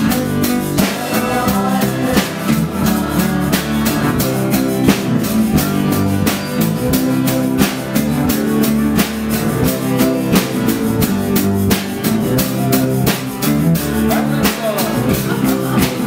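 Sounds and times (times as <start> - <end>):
drum kit beat: 0.0 - 16.0
strummed acoustic guitars: 0.0 - 16.0.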